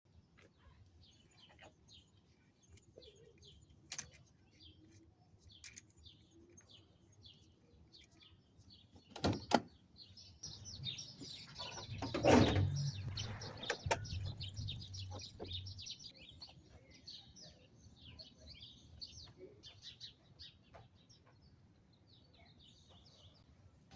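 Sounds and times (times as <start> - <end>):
bird chirping: 0.1 - 23.9.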